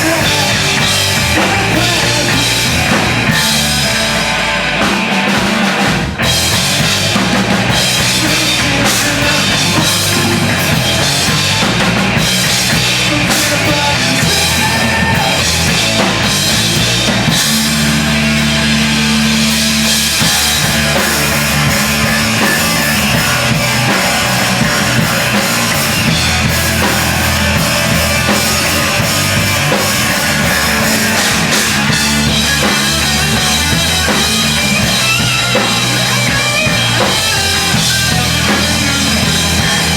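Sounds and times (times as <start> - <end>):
crashing drum kit: 0.0 - 39.9
loud rock band playing: 0.0 - 39.9.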